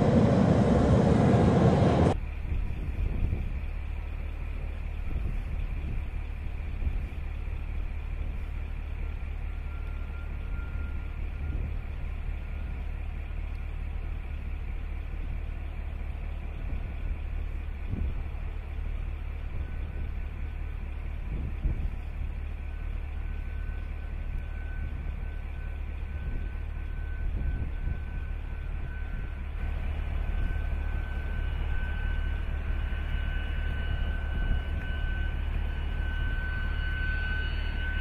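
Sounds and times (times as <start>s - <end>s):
jet engine high whine: 0.0s - 38.0s
jet engine low rumble: 0.0s - 38.0s.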